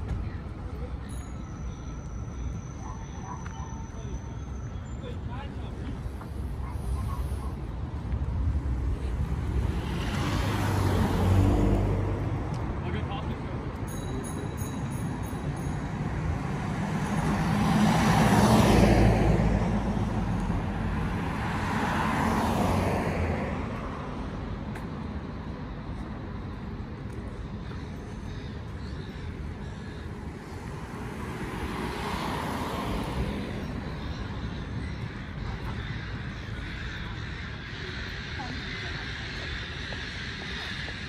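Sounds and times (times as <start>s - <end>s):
cars passing: 0.0s - 41.0s
traffic hum: 0.0s - 41.0s.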